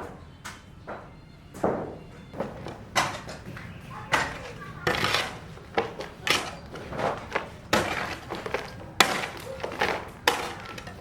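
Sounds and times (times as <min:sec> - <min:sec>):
construction knocks and clatters: 0:00.0 - 0:11.0.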